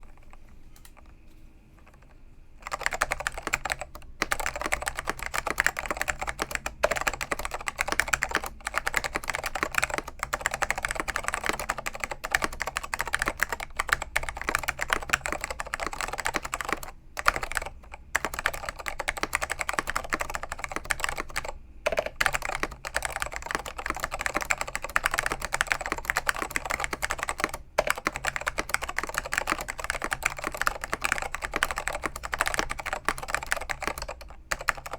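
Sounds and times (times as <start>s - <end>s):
fast typing on keyboard: 1.8s - 34.9s.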